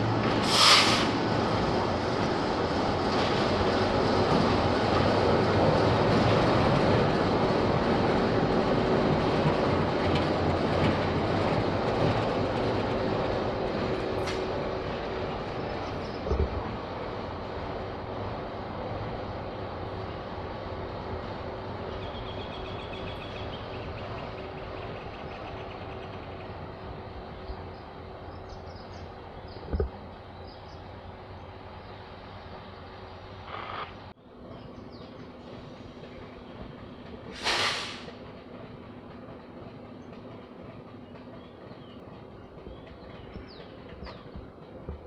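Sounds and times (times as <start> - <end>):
train rumble and wheel clatter: 0.0 - 45.0.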